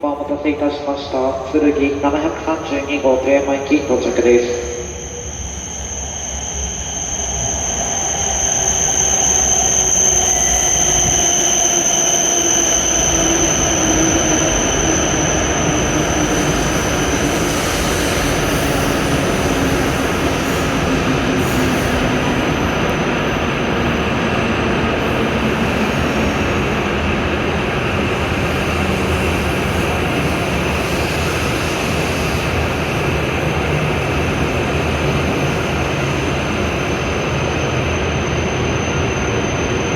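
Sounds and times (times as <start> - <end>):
train wheels rushing: 0.3 - 39.9.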